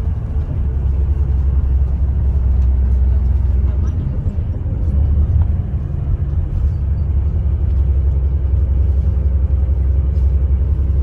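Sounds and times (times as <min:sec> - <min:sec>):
vehicle rumbling in motion: 0:00.0 - 0:11.0.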